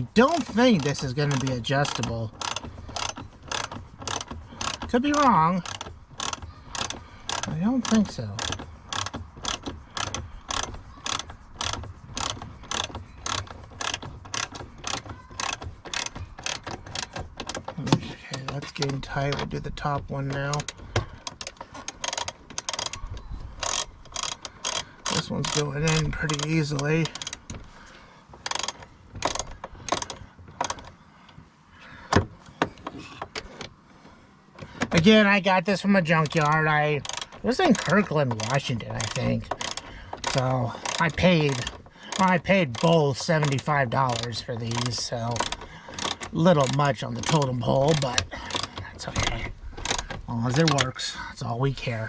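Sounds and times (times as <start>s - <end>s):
ratchet wrench clicking: 0.0s - 27.8s, 28.4s - 30.9s, 36.2s - 50.9s.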